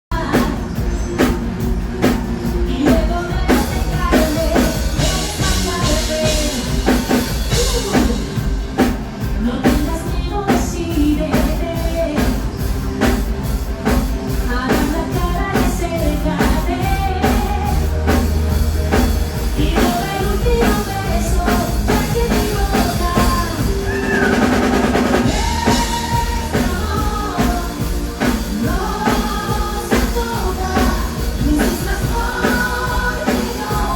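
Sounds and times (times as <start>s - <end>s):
person singing: 0.1s - 13.2s, 19.6s - 33.9s
drum kit beat: 0.1s - 33.9s.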